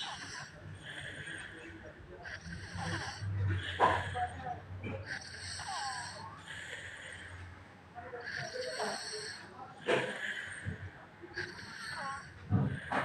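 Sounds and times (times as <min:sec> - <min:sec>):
child snoring: 0:00.0 - 0:04.4, 0:05.0 - 0:07.4, 0:08.2 - 0:13.0.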